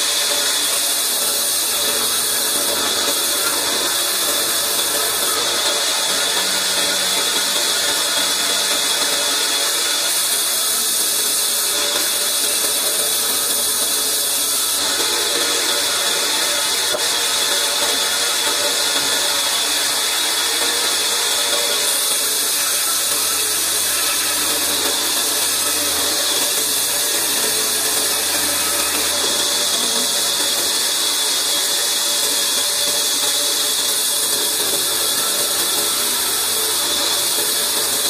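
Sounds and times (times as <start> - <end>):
band saw cutting logs: 0.0 - 38.0.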